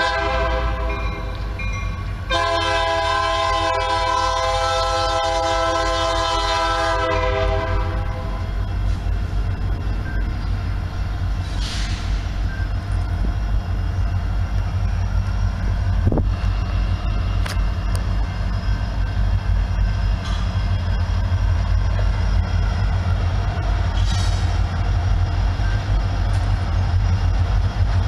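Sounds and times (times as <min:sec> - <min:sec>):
diesel locomotive rumble: 0:00.0 - 0:28.0.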